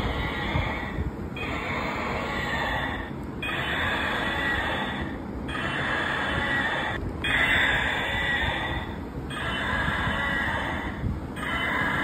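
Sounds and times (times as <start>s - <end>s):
toy dinosaur electronic roar: 0.0s - 12.0s.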